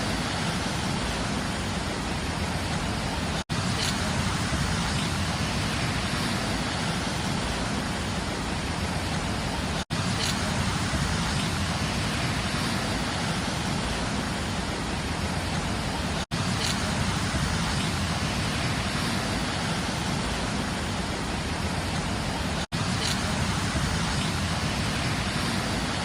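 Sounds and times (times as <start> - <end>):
floodwater rushing in river: 0.0 - 26.0.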